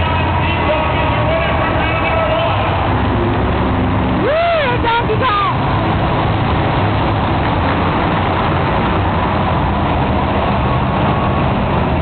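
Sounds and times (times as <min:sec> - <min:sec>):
monster truck engines running: 0:00.0 - 0:12.0.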